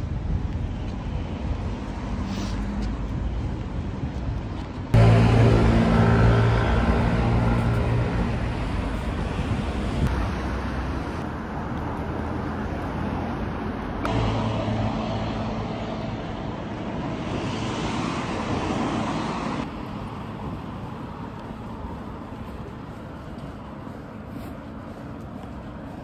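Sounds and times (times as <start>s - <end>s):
street traffic noise: 0.0s - 26.0s.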